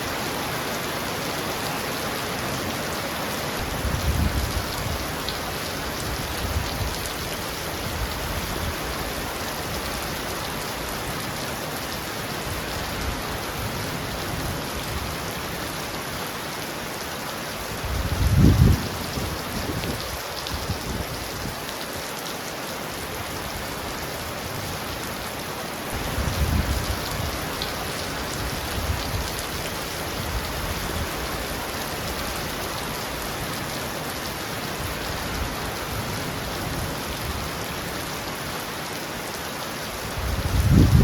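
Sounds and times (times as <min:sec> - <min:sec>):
heavy rain on a roof: 0:00.0 - 0:41.0.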